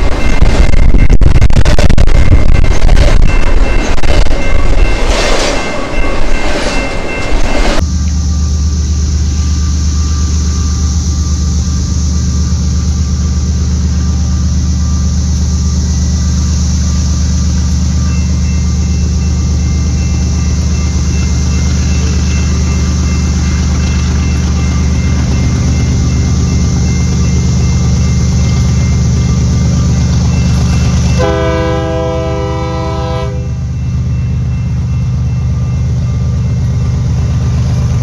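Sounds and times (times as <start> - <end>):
diesel locomotives droning: 0.0 - 38.0.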